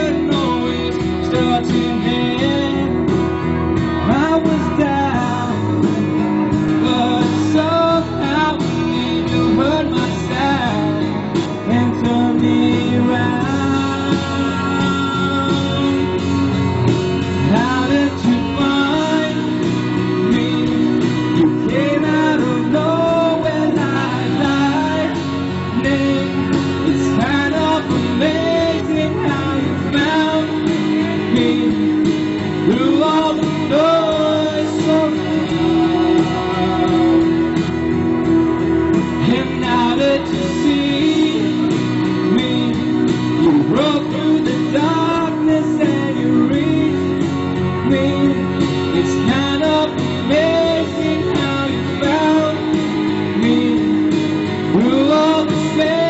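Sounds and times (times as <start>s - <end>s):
man singing a ballad: 0.0s - 16.7s, 17.3s - 37.7s, 39.2s - 56.0s
guitar-led backing music: 0.0s - 56.0s.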